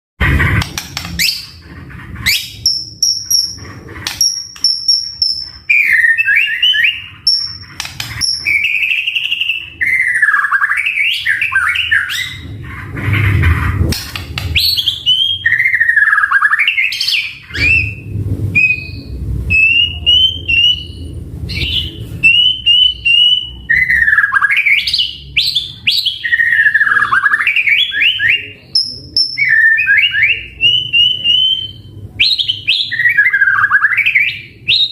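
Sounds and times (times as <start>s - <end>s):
bird singing whistled phrases: 4.2s - 12.4s, 14.6s - 34.9s.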